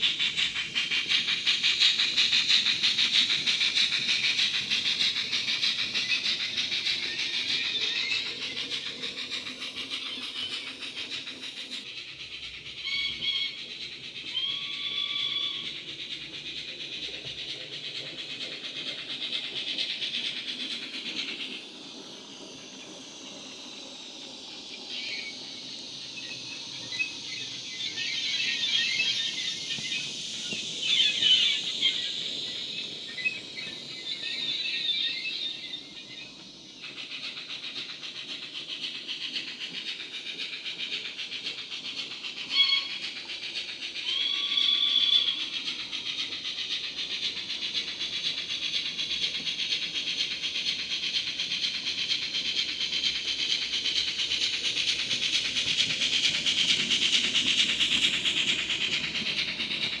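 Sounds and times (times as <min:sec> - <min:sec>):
soft steady steam hiss: 0:00.0 - 1:00.0
steam chuffs through small speaker: 0:00.0 - 1:00.0.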